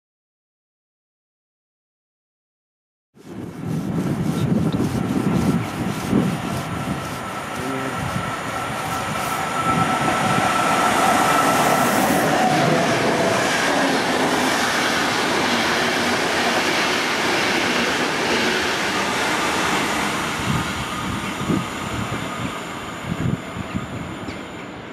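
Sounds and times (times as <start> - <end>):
electric locomotive whine: 3.2 - 24.9
train coaches rushing and rattling: 4.5 - 24.9.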